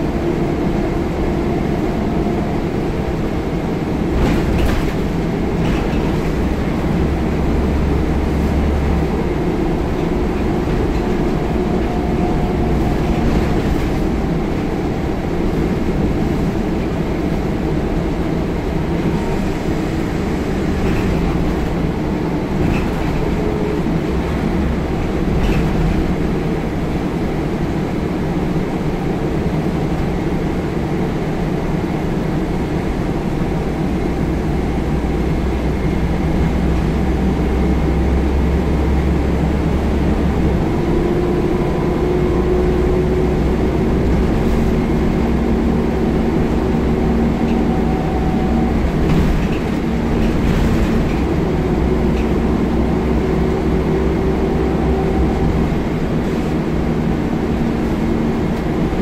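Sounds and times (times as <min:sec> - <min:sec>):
bus diesel engine: 0:00.0 - 0:59.0
road rumble: 0:00.0 - 0:59.0.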